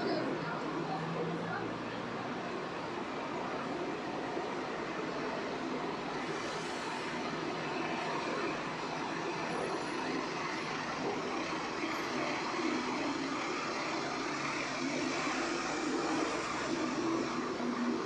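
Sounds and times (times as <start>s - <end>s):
dense road traffic: 0.0s - 18.0s.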